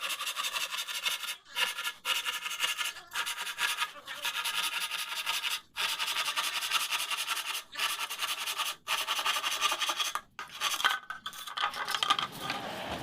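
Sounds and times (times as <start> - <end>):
scraping on wood: 0.0 - 13.0.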